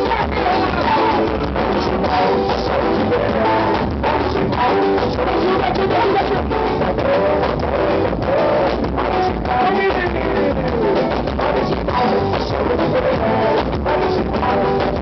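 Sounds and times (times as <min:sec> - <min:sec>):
band music with guitar and drums: 0:00.0 - 0:15.0.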